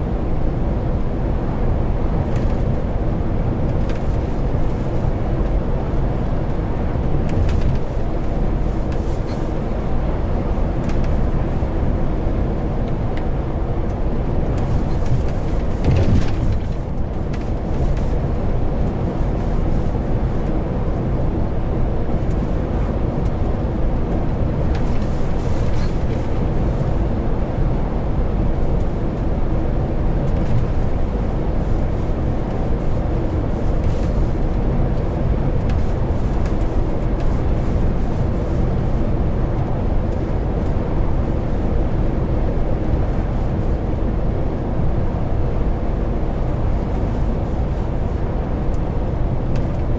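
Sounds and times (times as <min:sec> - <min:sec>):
diesel truck engine drone: 0:00.0 - 0:49.9
road rumble: 0:00.0 - 0:49.9.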